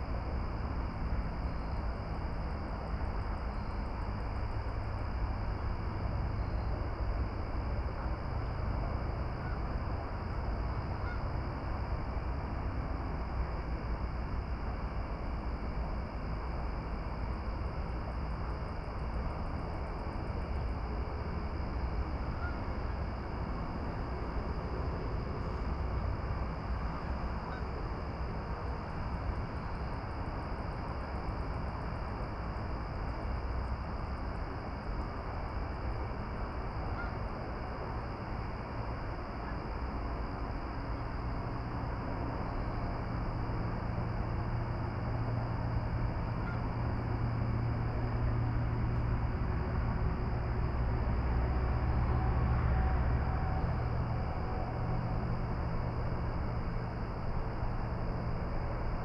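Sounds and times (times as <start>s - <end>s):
constant high-pitched hum: 0.0s - 59.0s.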